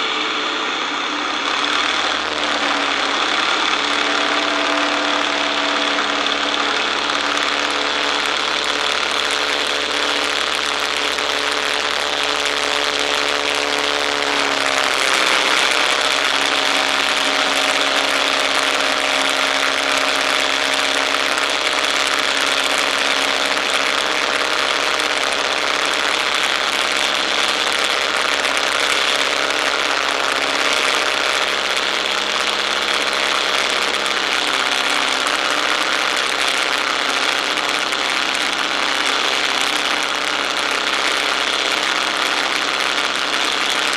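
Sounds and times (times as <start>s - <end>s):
biplane engine droning: 0.0s - 43.9s.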